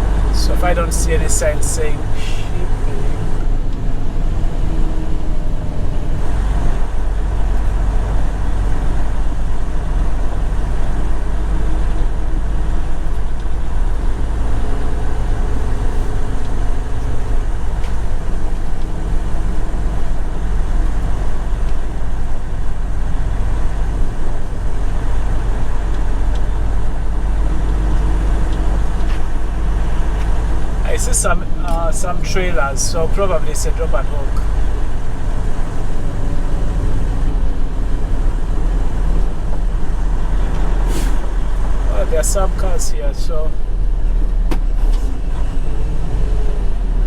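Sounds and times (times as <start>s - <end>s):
diesel truck engine rumbling: 0.0s - 47.0s.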